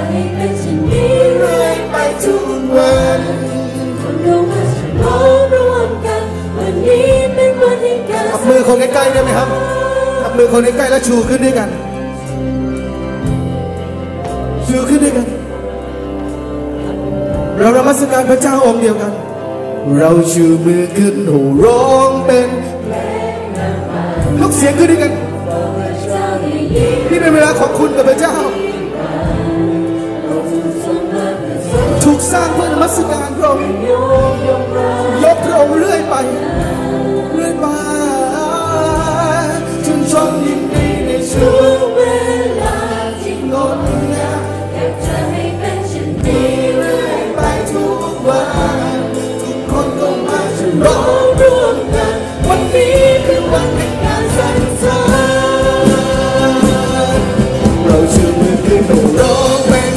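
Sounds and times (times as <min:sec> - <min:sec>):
voices singing together: 0:00.0 - 0:11.2, 0:21.5 - 0:59.9
worship band playing: 0:00.0 - 0:59.9.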